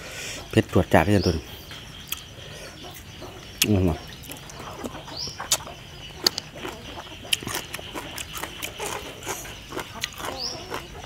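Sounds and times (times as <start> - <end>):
bird chirp: 0.2 - 11.0
crunchy chewing: 2.0 - 11.0.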